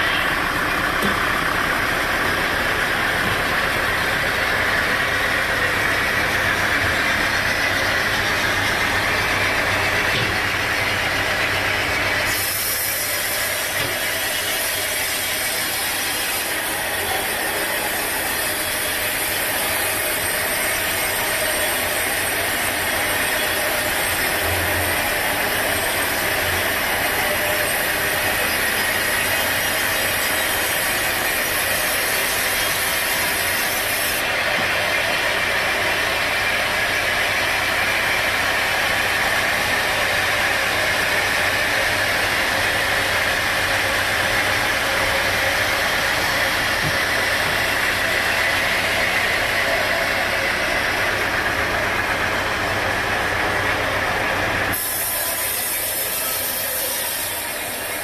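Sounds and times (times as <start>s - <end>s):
sawmill saw running with hissing: 0.0s - 58.0s.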